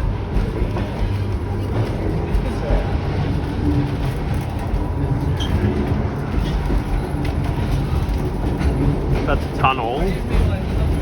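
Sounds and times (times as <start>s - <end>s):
train carriage rumbling: 0.0s - 11.0s.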